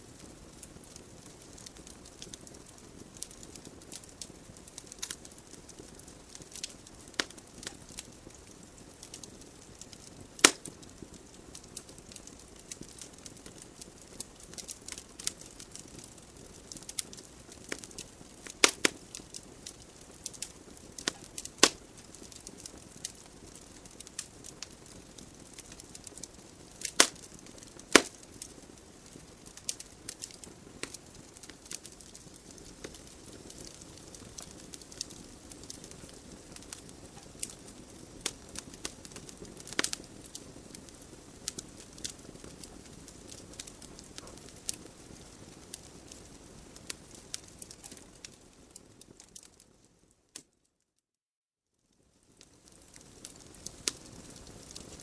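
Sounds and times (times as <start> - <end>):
wood fire crackling and popping: 0.0 - 50.5, 52.0 - 55.0.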